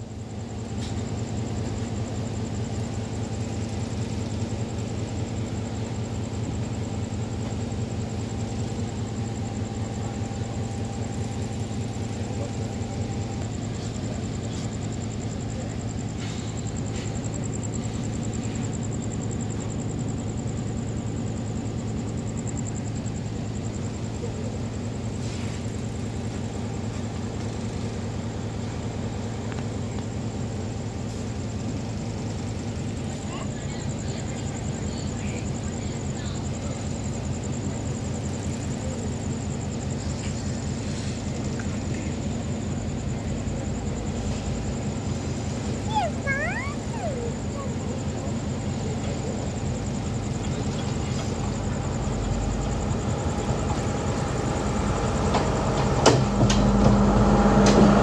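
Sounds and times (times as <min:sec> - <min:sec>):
diesel train engines droning: 0:00.0 - 0:58.0.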